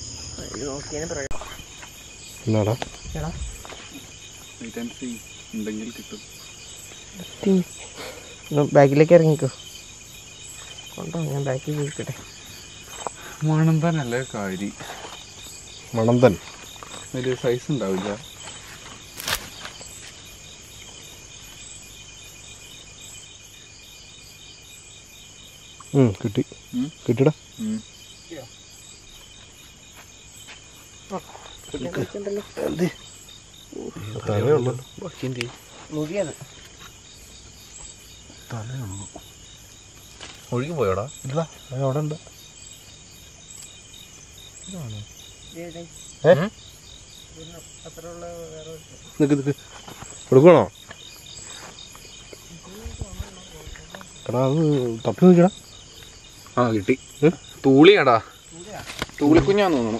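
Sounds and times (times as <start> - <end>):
crickets chirping: 0.0 - 59.9
higher insect call pulsing: 0.0 - 59.9.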